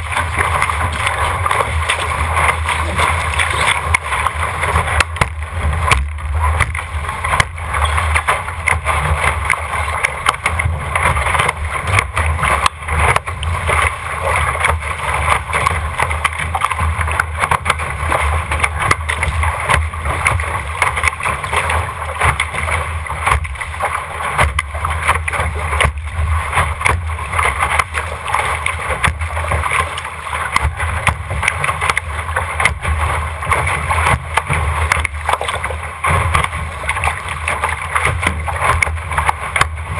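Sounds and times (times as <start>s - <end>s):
boat hull rushing through water: 0.0s - 39.9s
bow slapping waves: 0.0s - 39.9s
wind rumble on microphone: 0.0s - 39.9s.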